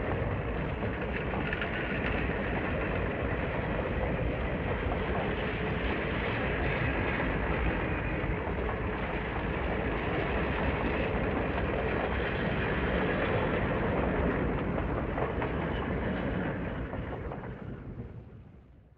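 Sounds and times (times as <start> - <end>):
train rumbling on rails: 0.0 - 18.9.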